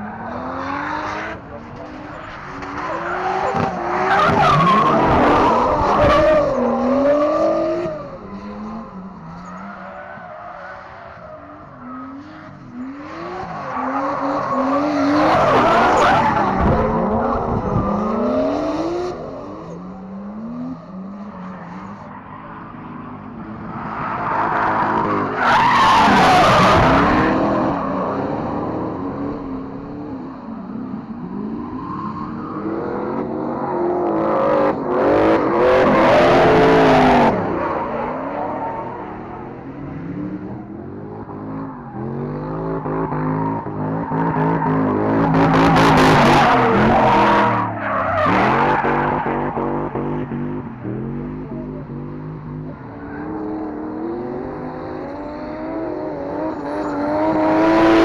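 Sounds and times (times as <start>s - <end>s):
car engines revving hard: 0.0s - 58.0s
tyres squealing and skidding: 1.7s - 29.5s, 30.3s - 39.9s, 40.5s - 50.5s.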